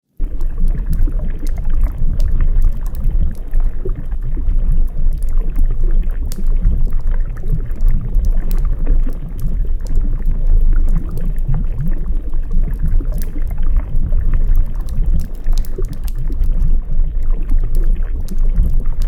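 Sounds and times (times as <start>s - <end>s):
fire crackling: 0.1s - 19.0s
water running and sloshing: 0.2s - 19.0s.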